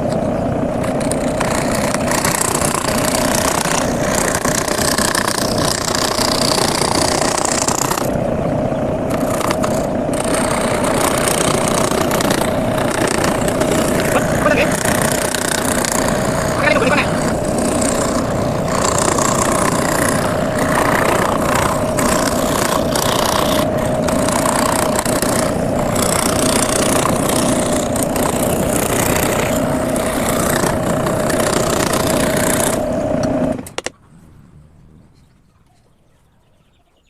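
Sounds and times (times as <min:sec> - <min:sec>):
electric power tool humming: 0:00.7 - 0:08.2, 0:09.0 - 0:33.7.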